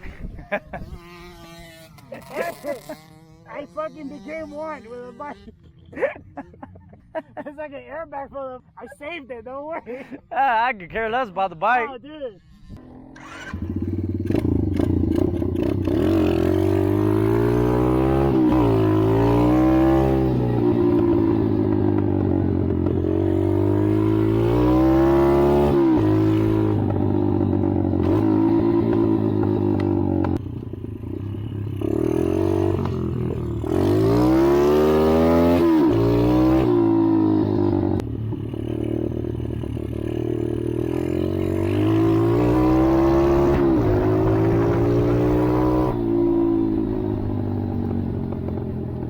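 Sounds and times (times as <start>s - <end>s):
atv engine revving: 0.0s - 7.1s, 12.5s - 49.0s.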